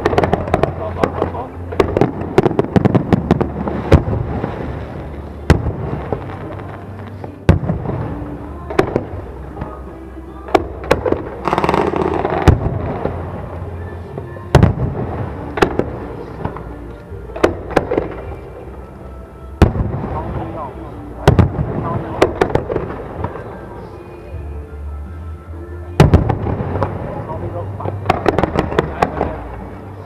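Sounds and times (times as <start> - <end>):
fireworks bangs: 0.0 - 9.9, 10.5 - 18.6, 19.6 - 23.8, 26.0 - 29.7.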